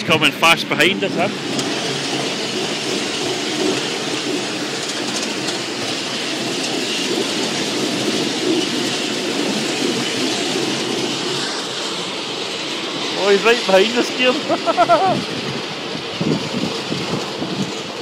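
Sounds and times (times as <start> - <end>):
miniature train wheels rumbling: 0.0 - 18.0.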